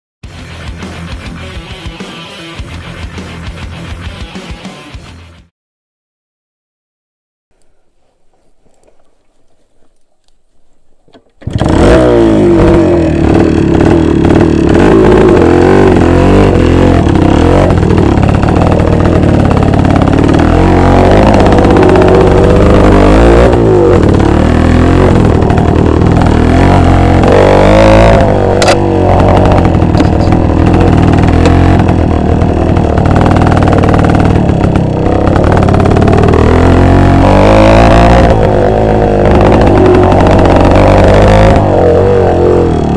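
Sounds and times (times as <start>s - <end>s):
two-stroke motorcycle engine revving: 0.3s - 5.3s, 11.4s - 42.9s.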